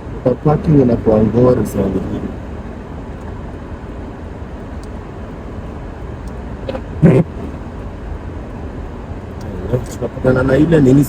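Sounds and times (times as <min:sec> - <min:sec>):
car cabin low rumble: 0:00.0 - 0:11.0.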